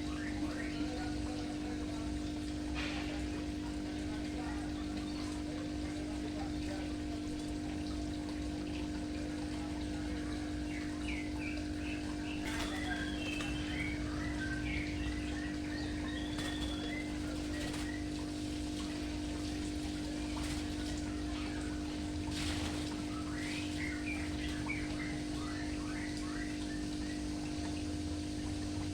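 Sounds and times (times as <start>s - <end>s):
running water: 0.0s - 28.9s
small birds chirping: 0.0s - 28.9s
steady hum: 0.0s - 28.9s.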